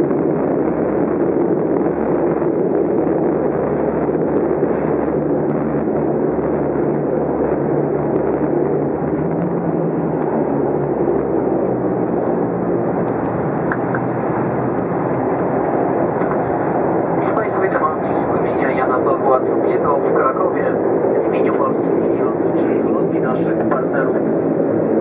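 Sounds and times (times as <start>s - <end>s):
turboprop engines rumbling: 0.0s - 25.0s.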